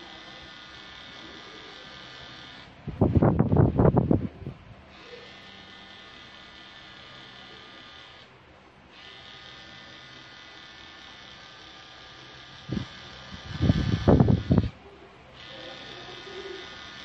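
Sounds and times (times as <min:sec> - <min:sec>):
tattoo machine buzzing: 0:00.0 - 0:17.0.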